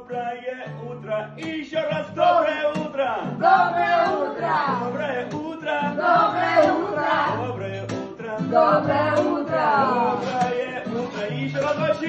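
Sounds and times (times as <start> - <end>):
man singing: 0.0 - 12.0
strummed acoustic guitar: 0.0 - 12.0.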